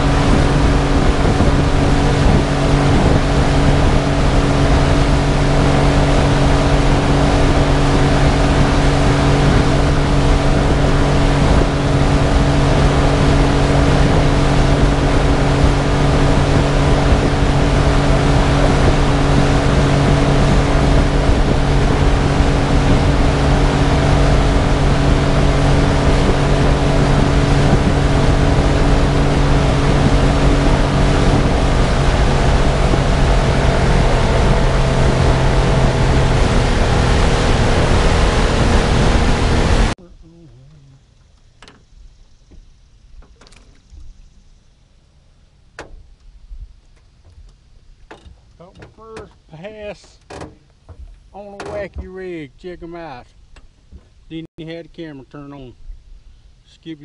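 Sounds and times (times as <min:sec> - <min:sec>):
outboard motor humming: 0:00.0 - 0:56.6.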